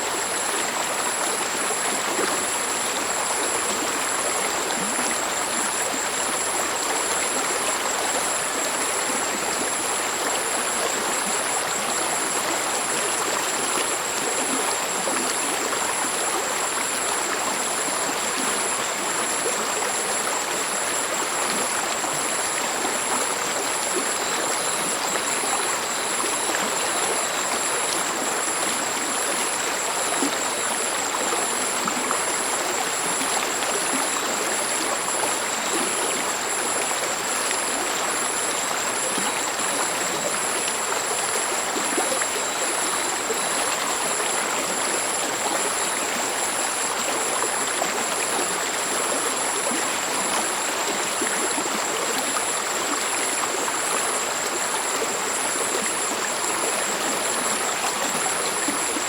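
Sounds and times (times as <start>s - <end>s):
stream babbling: 0.0s - 59.0s.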